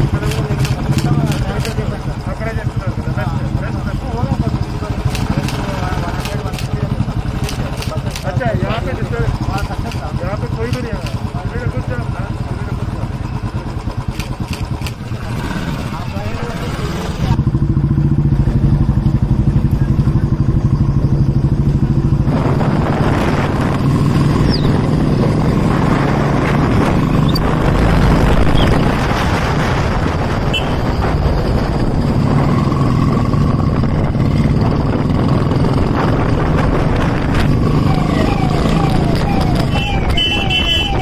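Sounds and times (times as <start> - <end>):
motorcycle engines pulsing: 0.0 - 41.0
rushing road noise: 0.0 - 41.0.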